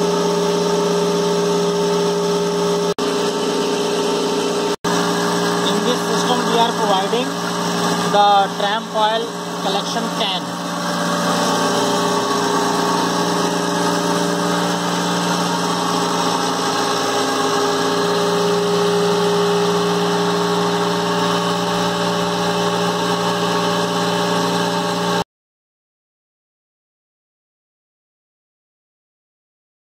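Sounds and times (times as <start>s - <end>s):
centrifuge machine humming: 0.0s - 25.2s.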